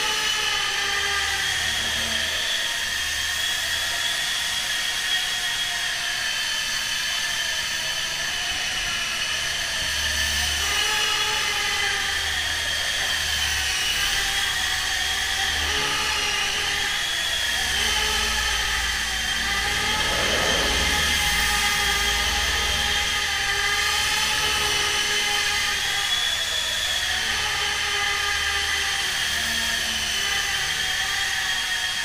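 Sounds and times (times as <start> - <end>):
high-pitched electric motors whining: 0.0 - 32.0.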